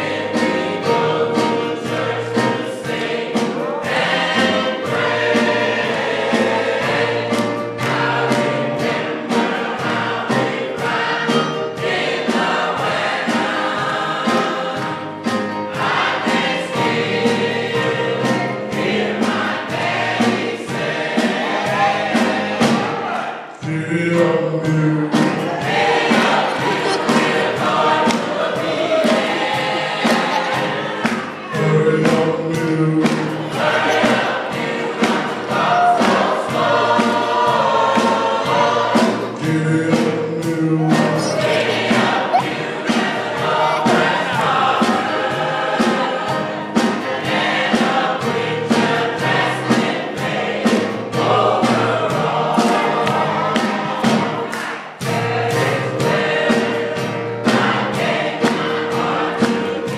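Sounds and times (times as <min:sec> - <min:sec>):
steady beat: 0:00.0 - 0:56.8
gospel choir singing: 0:00.0 - 0:59.9.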